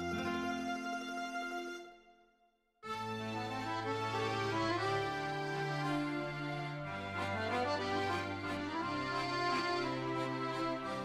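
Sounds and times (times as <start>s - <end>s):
sustained instrumental music: 0.0s - 2.2s, 2.8s - 11.0s.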